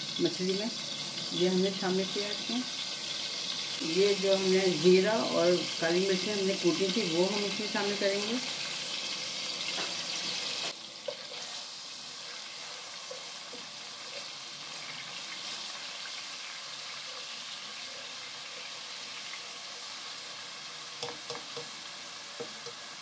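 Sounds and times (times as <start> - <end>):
hot oil sizzling in a pot: 0.0 - 23.0.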